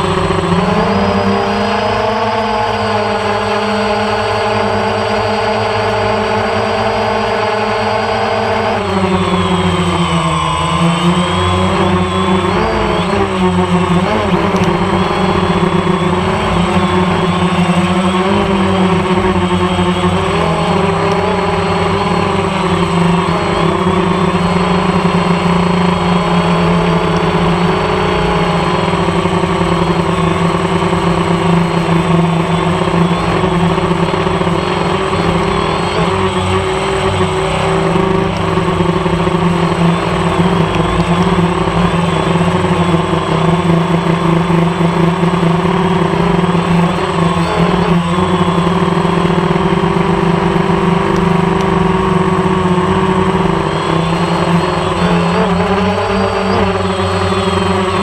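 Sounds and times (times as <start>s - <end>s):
aircraft engine hum: 0.0s - 58.0s.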